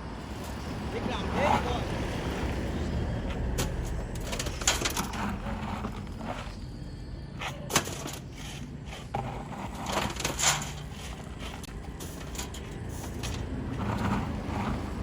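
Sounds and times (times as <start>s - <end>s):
shovels scraping sand and stone: 0.4s - 6.7s, 7.4s - 15.0s.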